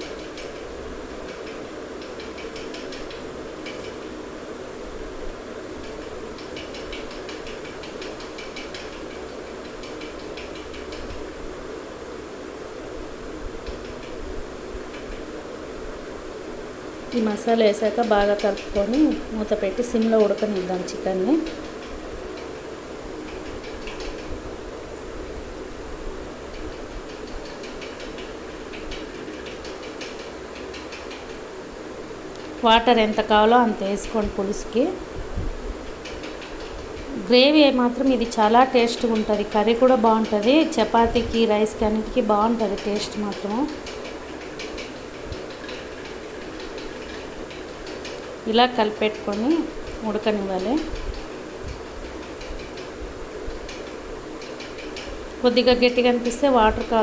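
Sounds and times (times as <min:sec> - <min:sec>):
steady rushing background noise: 0:00.0 - 0:57.0.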